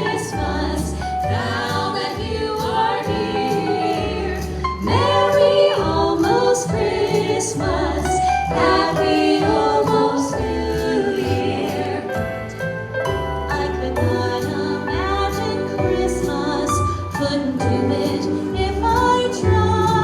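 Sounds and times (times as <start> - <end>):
vocal group singing in harmony: 0.0 - 12.8, 13.5 - 20.0.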